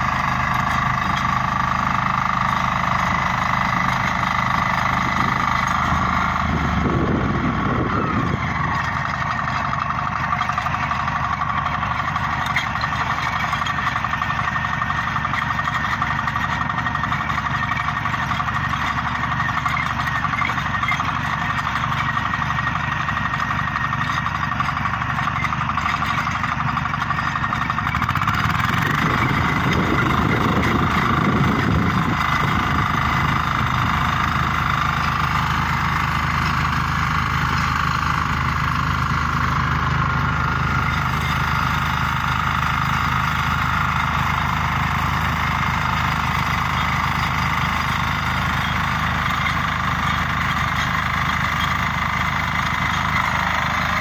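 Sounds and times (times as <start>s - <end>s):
tiller engines running: 0.0s - 54.0s.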